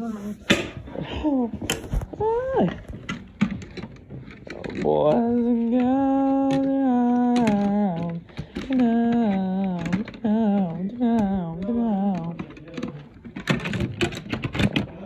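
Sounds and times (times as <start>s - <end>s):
sharp clicks and rattles: 0.5s - 15.0s.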